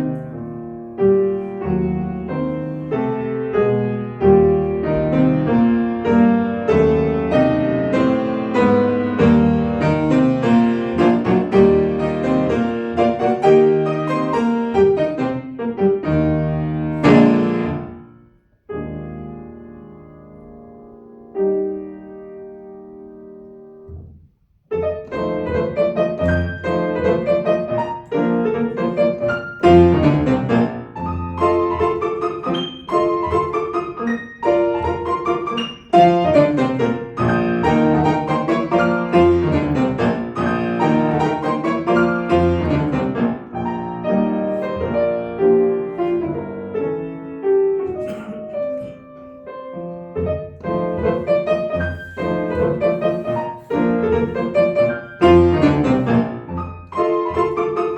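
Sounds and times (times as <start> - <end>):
solo classical piano: 0.0 - 57.9.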